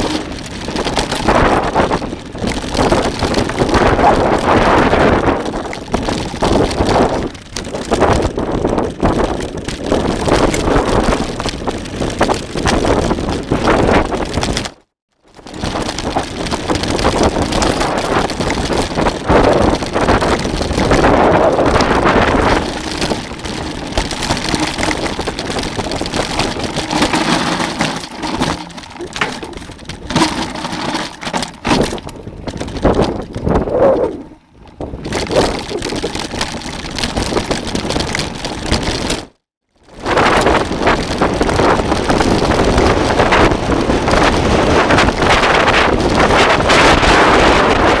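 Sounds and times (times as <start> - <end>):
strong wind buffeting microphone: 0.0 - 14.6, 15.4 - 39.1, 39.8 - 48.0.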